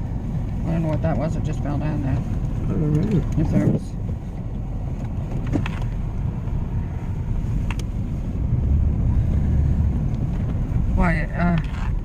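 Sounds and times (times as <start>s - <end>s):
vehicle rumble from inside cabin: 0.0s - 12.0s.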